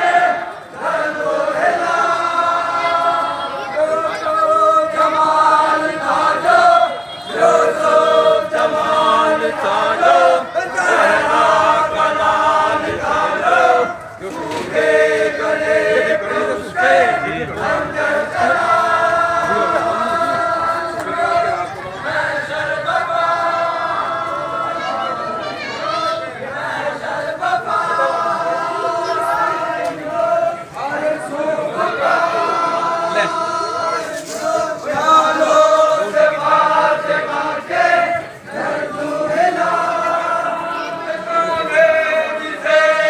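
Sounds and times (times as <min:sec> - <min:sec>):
men chanting a lament: 0:00.0 - 0:43.0.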